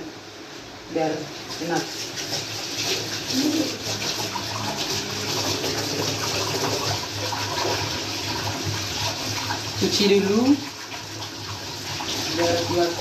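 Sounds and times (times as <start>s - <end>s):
water splashing in metal bowl: 1.5s - 13.0s.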